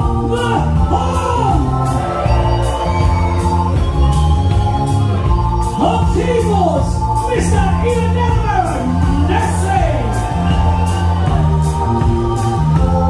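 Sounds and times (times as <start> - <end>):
bass guitar: 0.0 - 13.0
drums: 0.0 - 13.0
electric organ: 0.0 - 13.0.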